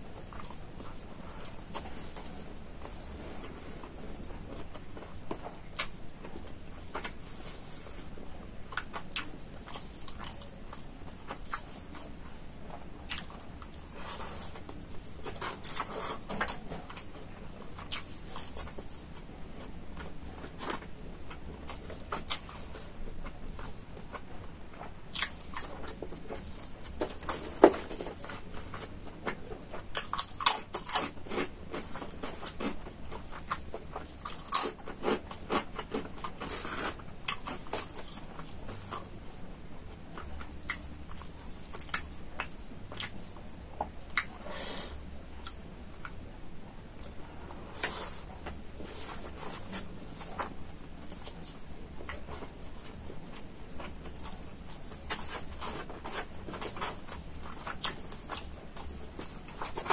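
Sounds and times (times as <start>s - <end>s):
chewing and crunching crispy food: 0.0s - 59.9s.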